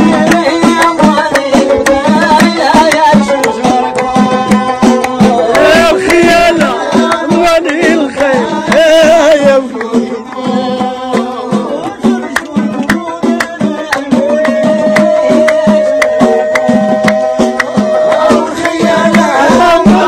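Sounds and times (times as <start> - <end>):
hand clapping: 0.0 - 20.0
hand drums: 0.0 - 20.0.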